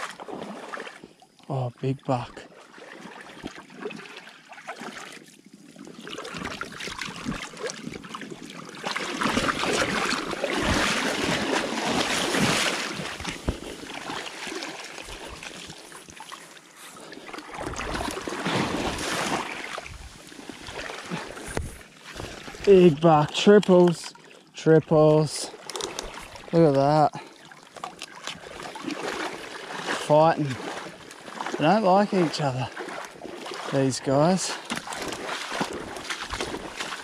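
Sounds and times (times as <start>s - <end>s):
shallow water splashing: 0.0s - 1.2s, 2.1s - 37.0s.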